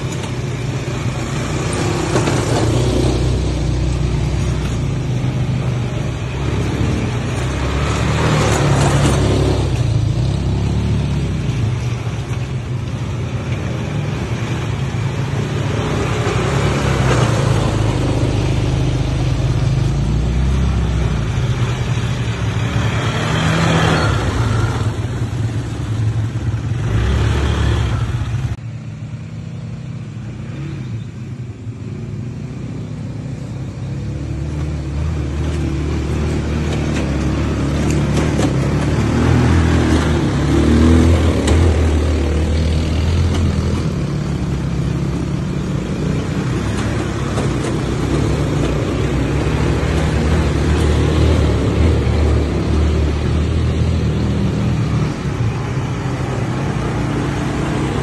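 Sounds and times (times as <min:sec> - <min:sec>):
quad bike engine revving: 0:00.0 - 0:12.3, 0:13.7 - 0:28.6, 0:33.8 - 0:58.0.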